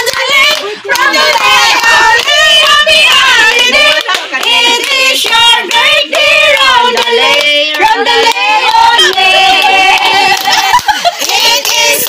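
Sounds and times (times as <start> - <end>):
hands clapping: 0.0 - 12.0
women singing together: 0.0 - 12.0.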